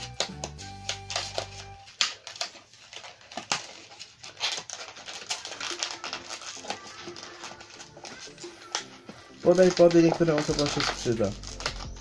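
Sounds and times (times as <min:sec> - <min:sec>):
hands rummaging through parcel: 0:00.0 - 0:12.0.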